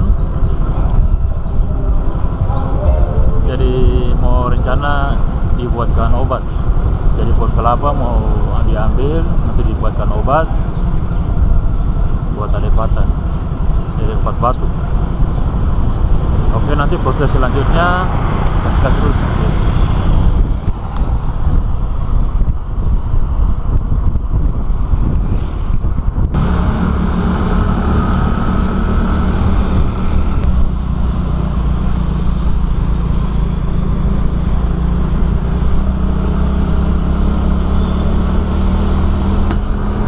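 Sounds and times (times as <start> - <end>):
engine hum: 0.0 - 40.0
vehicle low rumble: 0.0 - 40.0.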